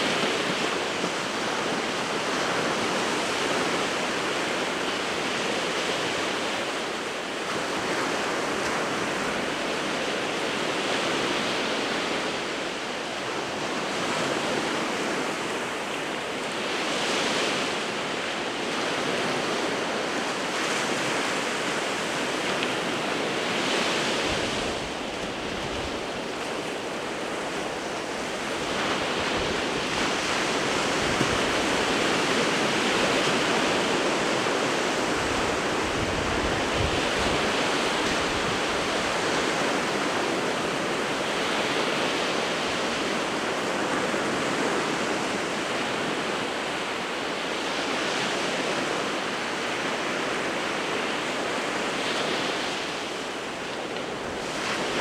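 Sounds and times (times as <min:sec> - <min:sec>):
sea waves breaking in surf: 0:00.0 - 0:55.0.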